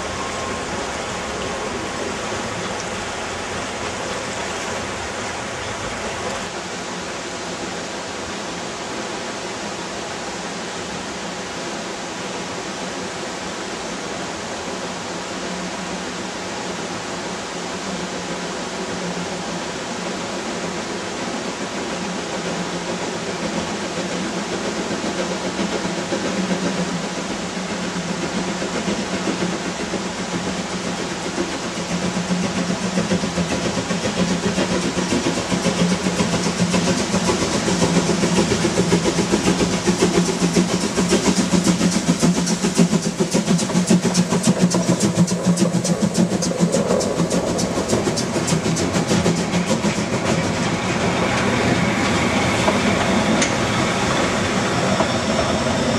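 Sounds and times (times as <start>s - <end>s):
steam locomotive exhaust beats: 0.0s - 55.9s.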